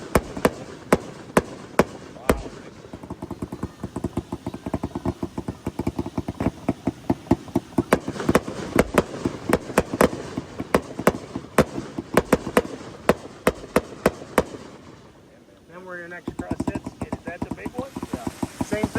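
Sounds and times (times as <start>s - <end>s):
fireworks popping and banging: 0.0s - 18.9s.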